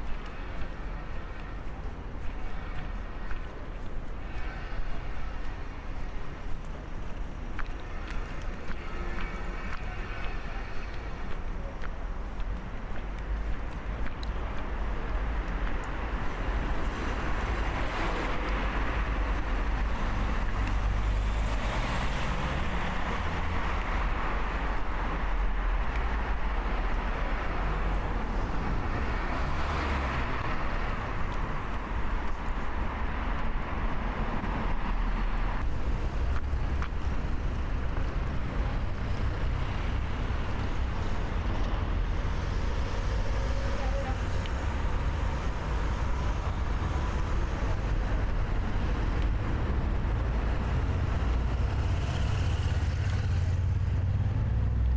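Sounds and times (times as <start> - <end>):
low traffic rumble: 0.0 - 54.9
vehicles passing: 0.0 - 54.9.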